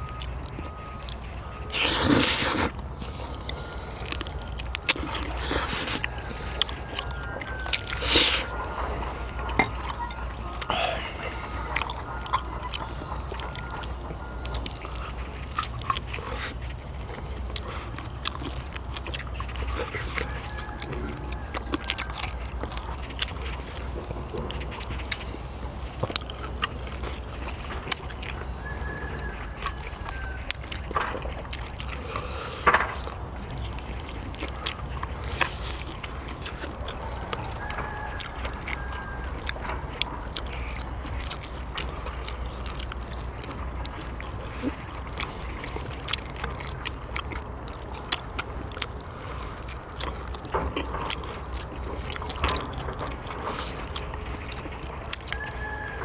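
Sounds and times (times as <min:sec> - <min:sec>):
people chewing: 0:00.0 - 0:56.0.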